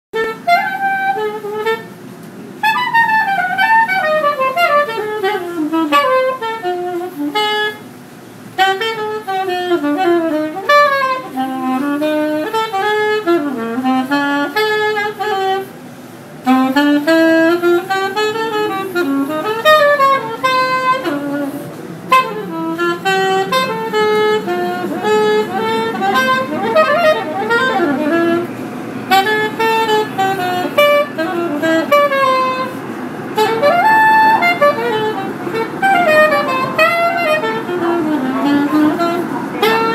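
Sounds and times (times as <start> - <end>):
soprano saxophone jazz melody: 0.1 - 39.9.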